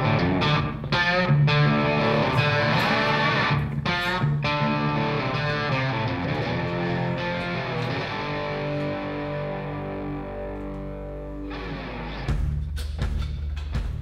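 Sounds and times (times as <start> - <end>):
background music chords: 0.0 - 14.0.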